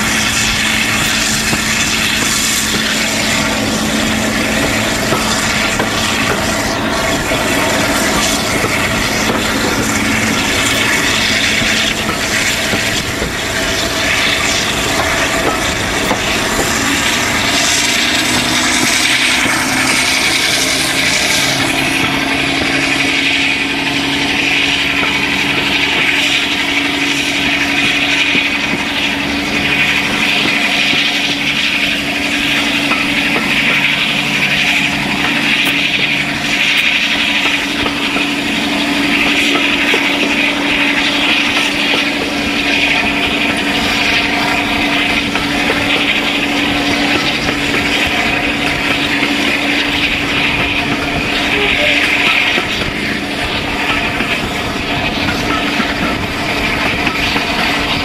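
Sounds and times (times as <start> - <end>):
diesel engine drone: 0.0 - 58.0
train wheel noise: 0.0 - 58.0
wind rush: 0.0 - 58.0.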